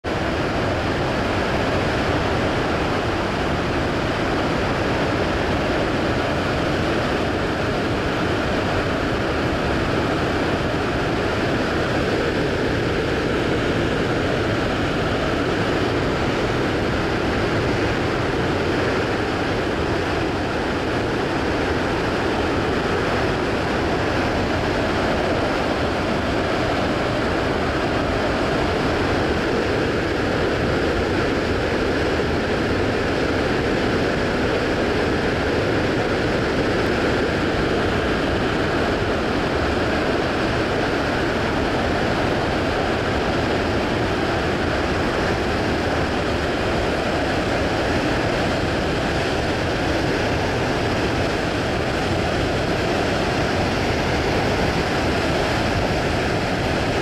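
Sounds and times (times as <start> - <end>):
waterfall rushing: 0.1 - 57.0.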